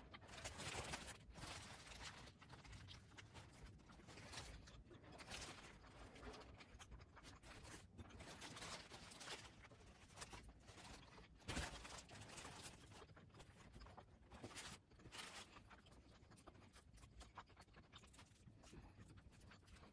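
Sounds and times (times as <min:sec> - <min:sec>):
chewing crispy food: 0:00.0 - 0:19.9.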